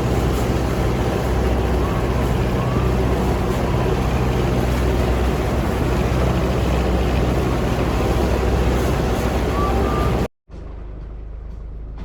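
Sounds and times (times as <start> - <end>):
boat engine droning: 0.0 - 10.8.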